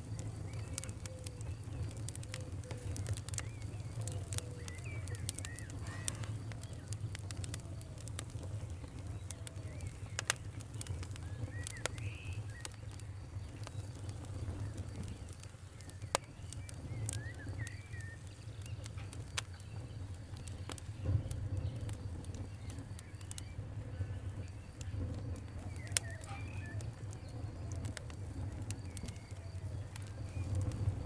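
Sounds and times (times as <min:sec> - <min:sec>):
faint bird chirps: 0:00.0 - 0:31.0
wood fire crackling and popping: 0:00.0 - 0:31.0.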